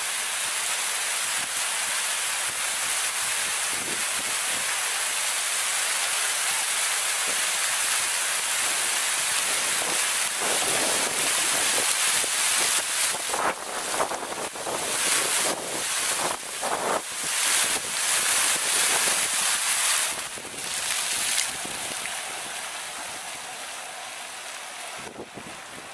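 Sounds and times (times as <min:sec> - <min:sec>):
fountain jets splashing: 0:00.0 - 0:25.9.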